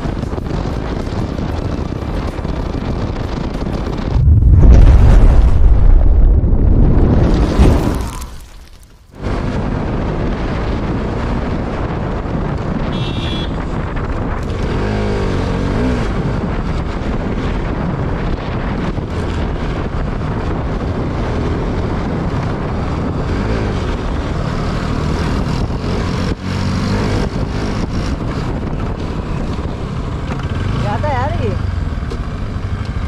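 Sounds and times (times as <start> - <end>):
motorcycle engine running: 0.0 - 4.3, 9.2 - 33.0
wind noise on microphone: 0.0 - 33.0.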